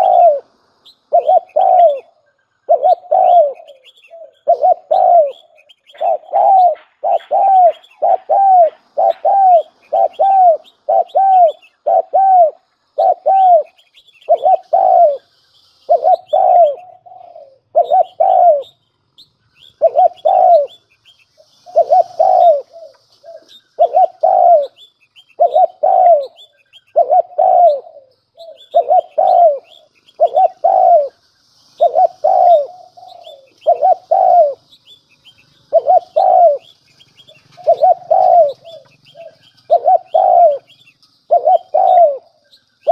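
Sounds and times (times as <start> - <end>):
dove cooing: 0.0 - 18.8, 19.8 - 20.8, 21.4 - 31.2, 31.8 - 42.9
small birds chirping: 0.0 - 42.9.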